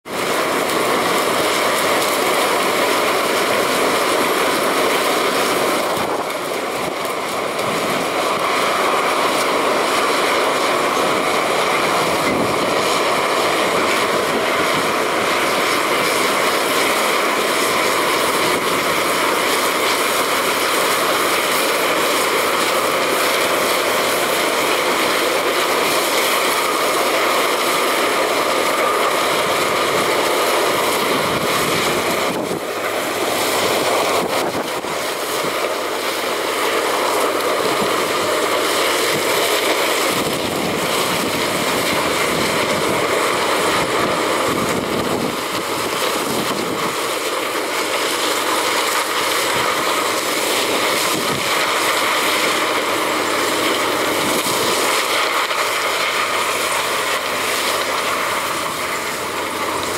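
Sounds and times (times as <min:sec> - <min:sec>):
harvester machine drone: 0:00.1 - 0:59.9.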